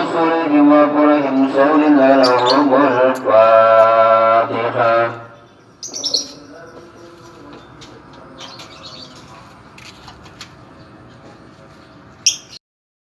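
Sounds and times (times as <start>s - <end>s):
caged birds chirping: 0.0s - 12.6s
steady background noise: 0.0s - 12.6s.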